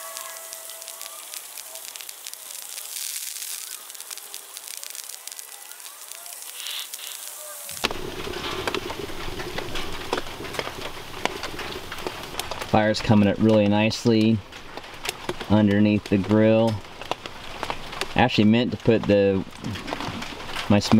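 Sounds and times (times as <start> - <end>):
kindling fire crackling and popping: 0.0 - 20.9.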